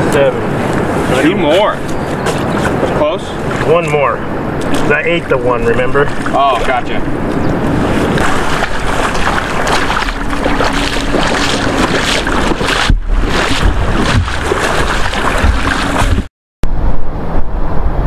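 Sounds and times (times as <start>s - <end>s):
water splashing and sloshing: 0.0s - 16.3s
wind buffeting microphone: 0.0s - 18.0s.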